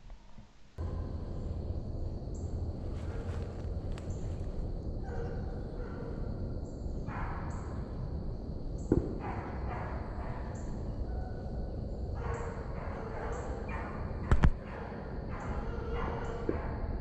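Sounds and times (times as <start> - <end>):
distant hounds baying: 0.8 - 17.0.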